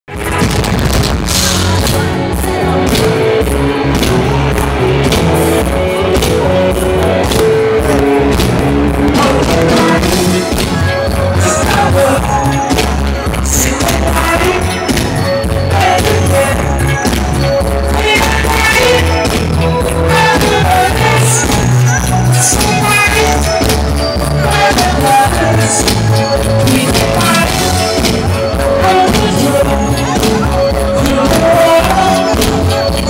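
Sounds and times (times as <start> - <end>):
drums: 0.1 - 33.0
electric guitars: 0.1 - 33.0
person singing: 1.3 - 33.0.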